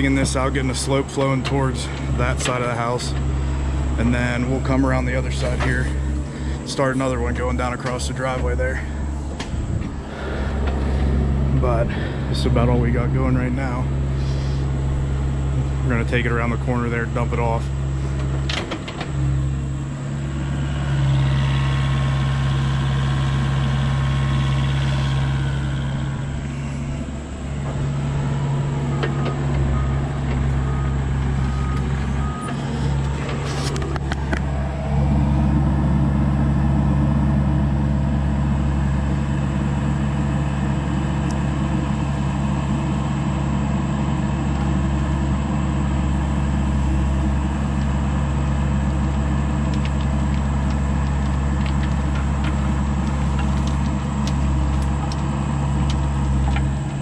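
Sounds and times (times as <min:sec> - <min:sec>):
excavator diesel engine running: 0:00.0 - 0:57.0
high whine: 0:00.0 - 0:57.0.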